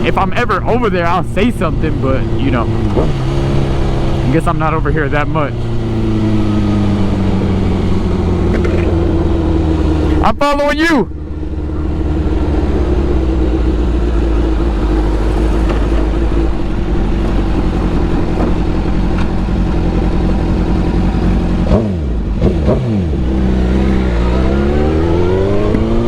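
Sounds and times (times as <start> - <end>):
motorcycle engine running: 0.0 - 10.4, 11.0 - 26.0.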